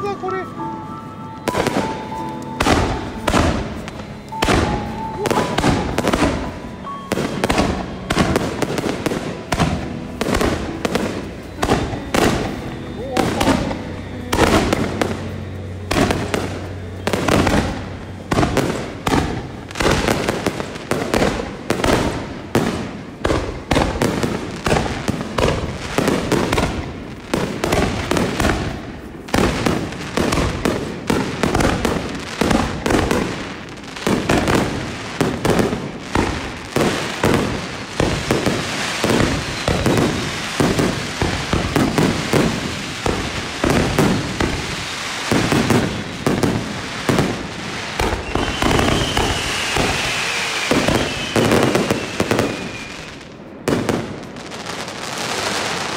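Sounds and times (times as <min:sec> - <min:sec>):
fireworks bangs and bursts: 0:01.1 - 0:55.9.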